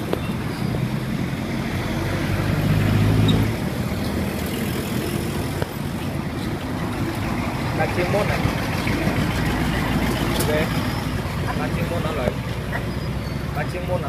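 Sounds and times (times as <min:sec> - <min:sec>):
street traffic: 0:00.0 - 0:14.0
vehicle engine passing close: 0:00.0 - 0:14.0.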